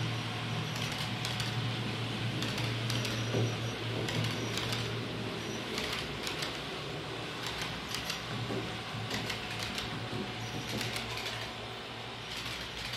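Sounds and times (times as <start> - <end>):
model train humming: 0.0 - 12.9
wheels clicking over rail joints: 0.7 - 5.0, 5.6 - 11.7, 12.3 - 12.9.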